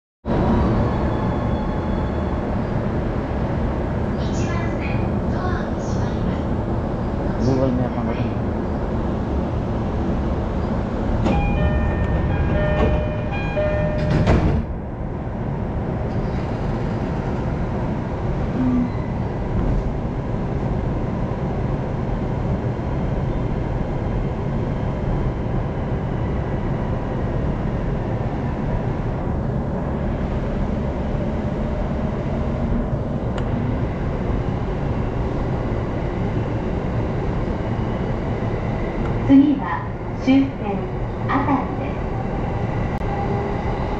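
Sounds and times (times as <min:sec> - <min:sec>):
train rumbling along track: 0:00.2 - 0:43.9.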